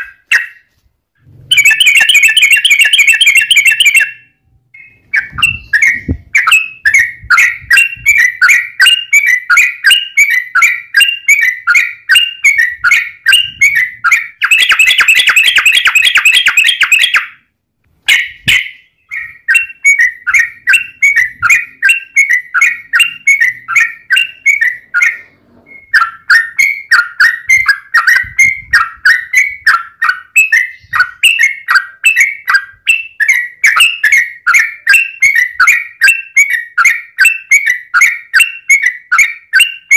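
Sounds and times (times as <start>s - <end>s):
bird singing rapid chattering notes: 1.5s - 17.4s, 18.1s - 39.9s.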